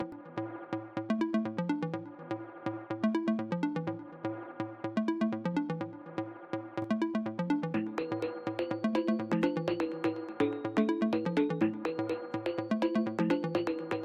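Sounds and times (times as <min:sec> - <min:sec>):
electronic music with plucked melody: 0:00.0 - 0:14.0.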